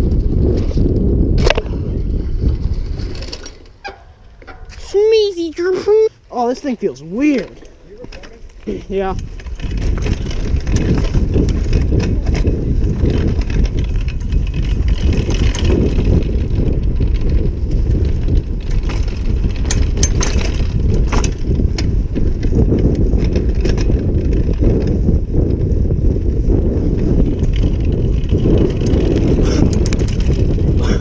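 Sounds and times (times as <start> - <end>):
bike clicks and rattles: 0.0 - 31.0
bike tyres rumbling on dirt: 0.0 - 31.0.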